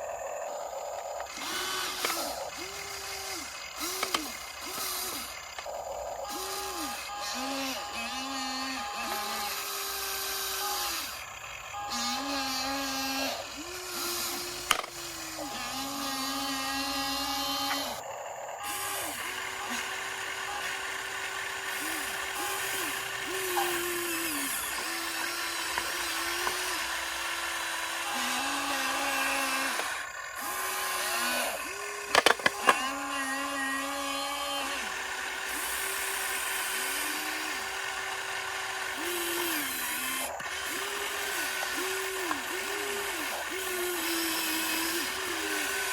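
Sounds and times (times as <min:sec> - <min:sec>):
electric motors whining: 0:00.0 - 0:45.9.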